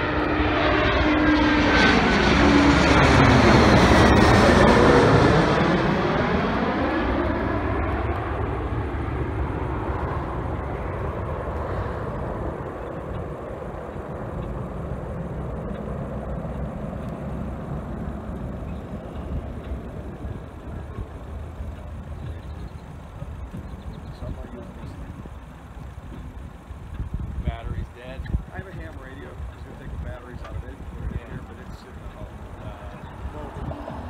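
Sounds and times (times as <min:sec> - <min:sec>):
jet airliner passing overhead: 0:00.0 - 0:34.0.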